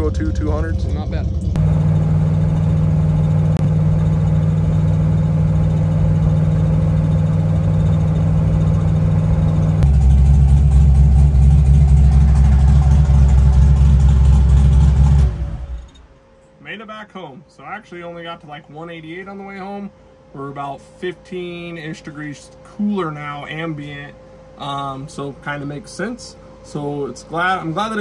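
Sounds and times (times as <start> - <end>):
car engine droning from cabin: 0.0 - 28.0.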